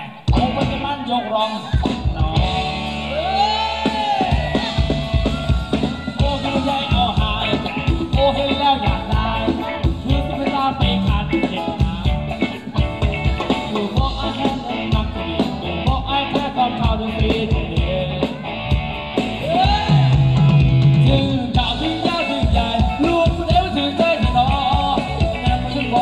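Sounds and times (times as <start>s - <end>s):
person singing: 0.0s - 18.8s, 19.4s - 26.0s
drum kit steady beat: 0.2s - 26.0s.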